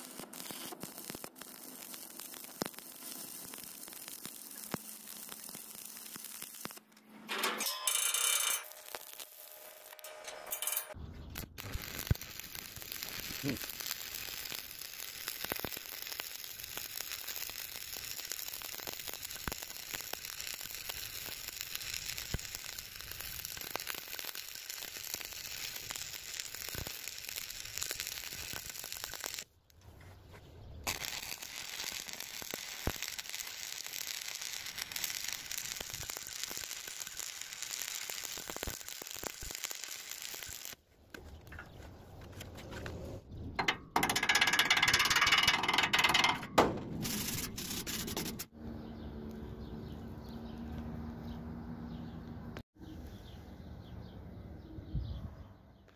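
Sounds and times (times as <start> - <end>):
welding arc crackling and sizzling: 0.0 - 29.6, 30.8 - 42.9, 43.6 - 48.6.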